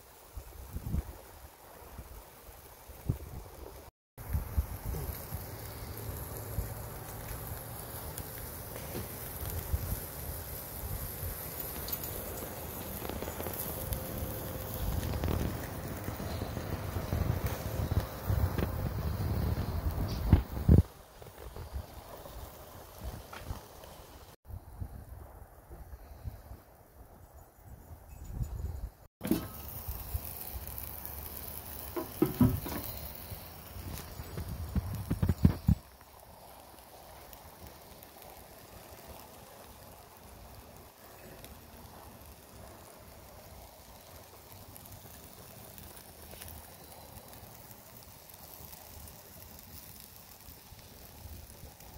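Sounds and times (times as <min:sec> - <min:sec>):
steak sizzling on a grill: 0:00.0 - 0:24.4, 0:29.2 - 0:51.9
pops and crackles: 0:04.2 - 0:23.9, 0:29.2 - 0:51.9.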